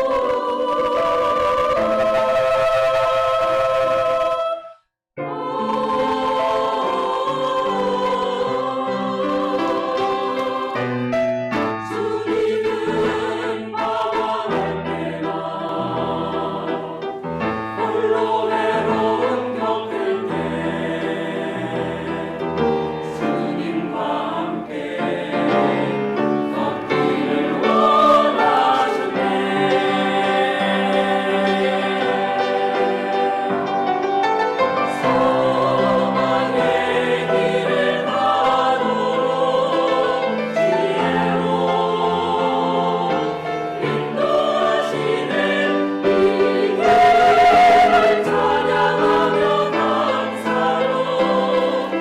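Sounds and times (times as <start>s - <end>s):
choir singing with accompaniment: 0.0s - 52.0s.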